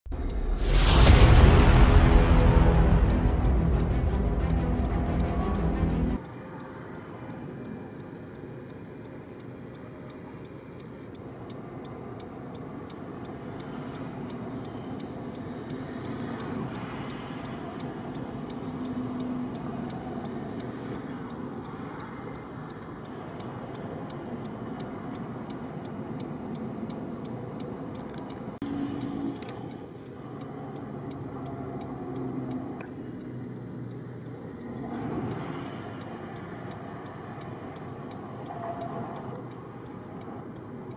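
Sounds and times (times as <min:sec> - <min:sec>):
highway traffic noise: 0:00.1 - 0:40.9
faint regular ticking: 0:02.7 - 0:40.9.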